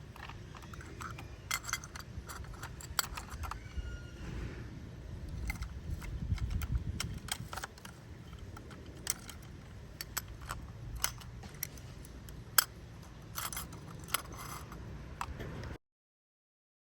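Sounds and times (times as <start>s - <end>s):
toy clicks and plastic rattles: 0.0s - 4.0s, 5.2s - 15.8s.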